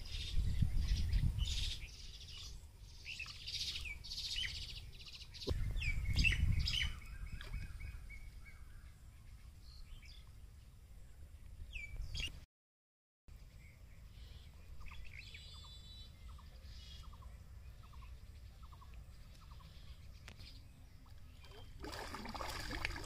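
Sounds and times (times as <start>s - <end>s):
small birds chirping: 0.0s - 12.4s, 13.3s - 21.8s.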